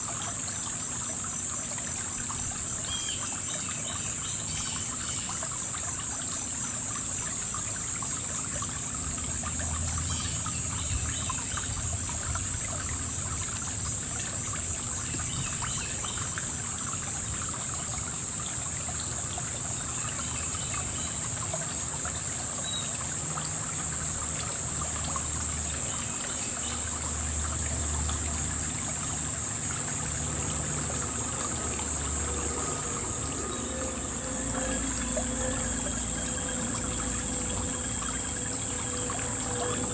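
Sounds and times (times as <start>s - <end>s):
high-pitched insect chorus: 0.0s - 39.9s
river water trickling over stones: 0.0s - 39.9s.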